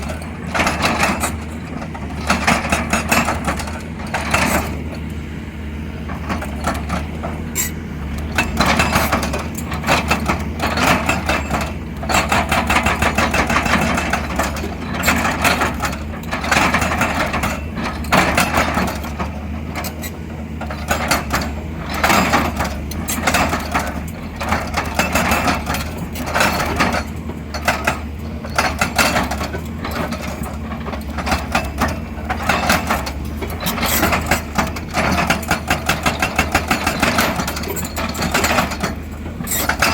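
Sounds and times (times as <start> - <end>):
excavator diesel engine running: 0.0 - 39.9
rapid rattling of excavator: 0.0 - 39.9.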